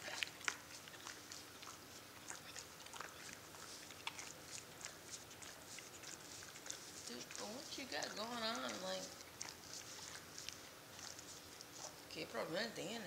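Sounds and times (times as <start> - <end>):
dog chewing and mouthing: 0.0 - 13.0.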